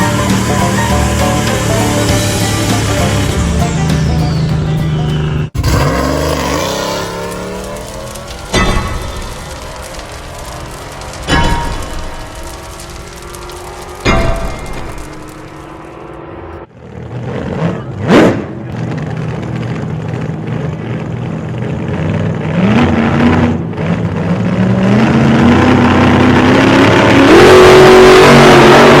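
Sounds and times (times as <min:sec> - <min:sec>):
car engine revving loud exhaust: 0:00.0 - 0:29.0.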